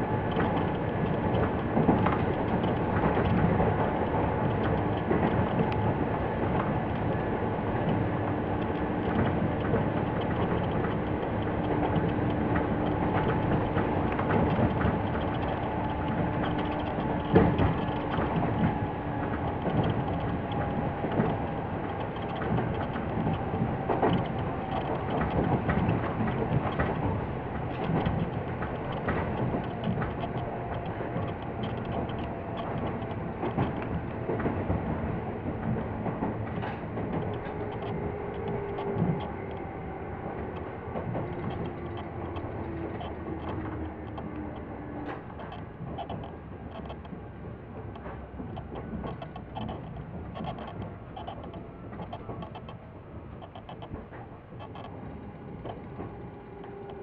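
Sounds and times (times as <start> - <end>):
faint motor hum: 0.0 - 57.0
train wheels rumbling on rail: 0.0 - 57.0
wheels knocking on rail joints: 0.0 - 57.0.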